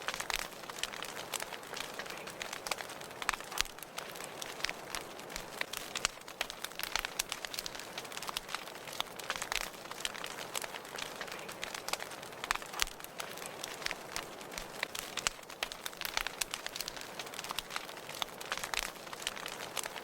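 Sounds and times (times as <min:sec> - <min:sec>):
soft fire hiss: 0:00.0 - 0:20.0
wood fire crackling: 0:00.0 - 0:20.0.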